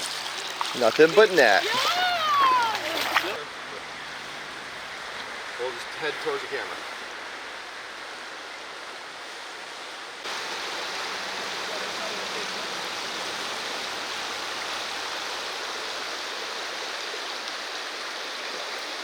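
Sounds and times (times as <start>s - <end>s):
rushing river water: 0.0s - 19.0s.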